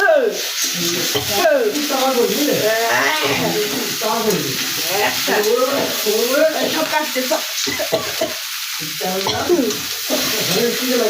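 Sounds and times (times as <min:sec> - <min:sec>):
food sizzling in hot oil: 0:00.0 - 0:11.0
voices: 0:00.0 - 0:11.0.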